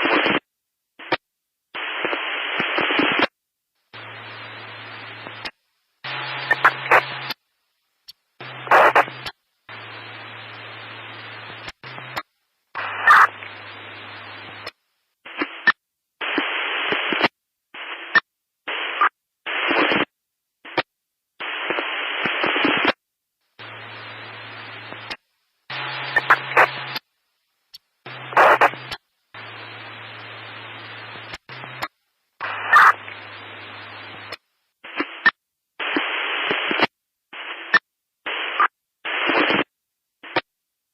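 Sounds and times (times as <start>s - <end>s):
radio static hiss: 0.0s - 40.5s
sharp static crackles: 0.0s - 40.5s.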